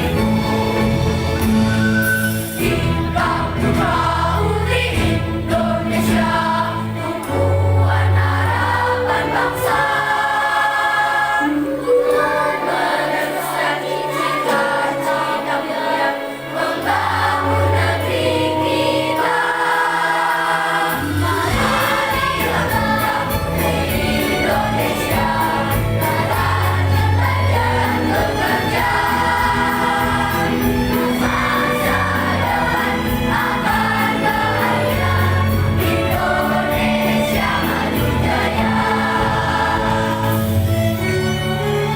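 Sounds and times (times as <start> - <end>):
instrumental accompaniment: 0.0 - 41.9
children's choir singing: 2.1 - 41.9.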